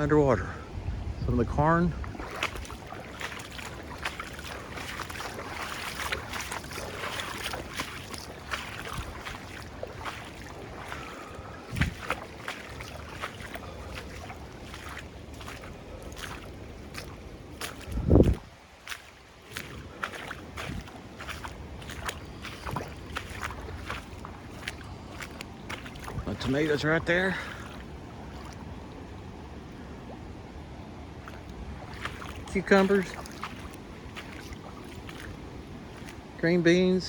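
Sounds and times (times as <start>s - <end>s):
floodwater sloshing and splashing: 0.0s - 37.0s
water trickling: 2.0s - 30.3s, 31.1s - 36.4s.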